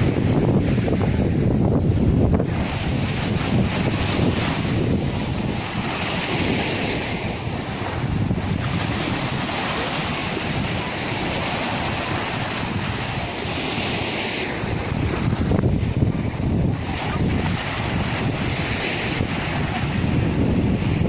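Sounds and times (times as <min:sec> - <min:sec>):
sea waves surf: 0:00.0 - 0:21.0
wind buffeting microphone: 0:00.0 - 0:21.0.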